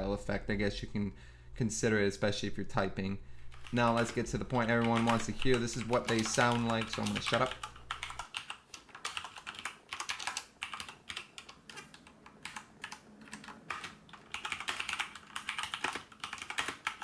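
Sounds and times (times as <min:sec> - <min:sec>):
mechanical keyboard typing: 0:02.3 - 0:17.0.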